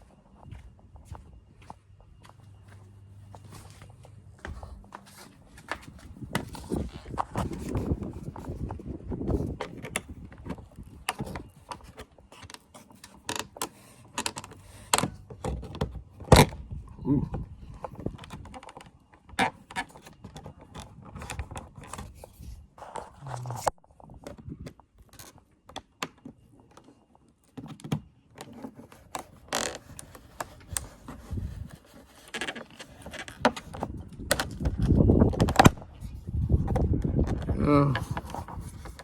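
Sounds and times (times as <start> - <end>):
rumbling handling noise: 0.0 - 39.0
plastic clicks and scrapes: 5.7 - 16.6, 17.3 - 39.0.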